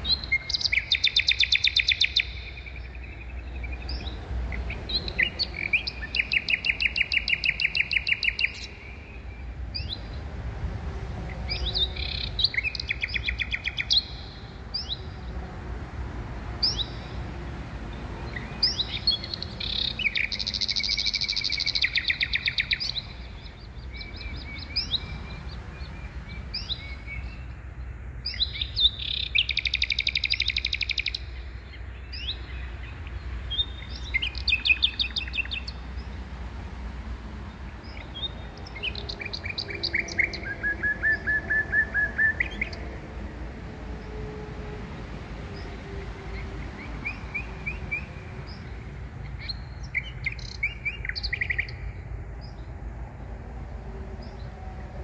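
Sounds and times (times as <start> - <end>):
small birds trilling and chirping: 0.0 - 55.0.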